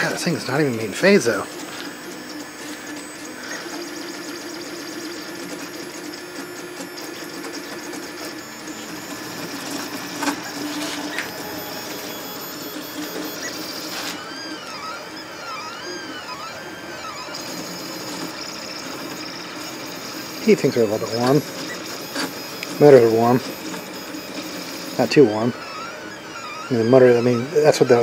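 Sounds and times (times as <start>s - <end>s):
motors whining up and down: 0.0s - 28.0s
stepper motors buzzing: 0.0s - 28.0s.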